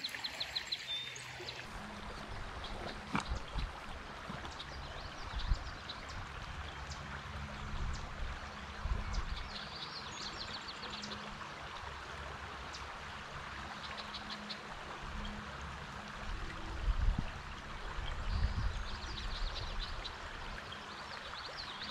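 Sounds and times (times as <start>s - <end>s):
creek running over riffle: 0.0s - 21.9s.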